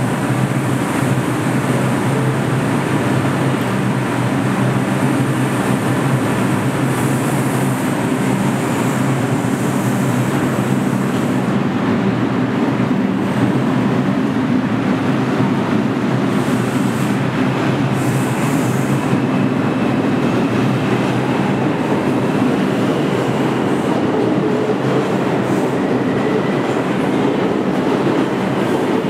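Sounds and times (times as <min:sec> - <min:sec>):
subway train humming and rumbling: 0:00.0 - 0:29.0.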